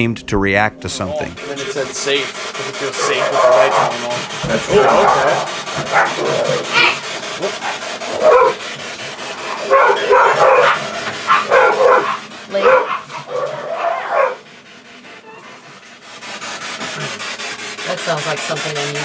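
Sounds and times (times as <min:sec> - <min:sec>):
dogs barking excitedly: 0:01.4 - 0:19.0.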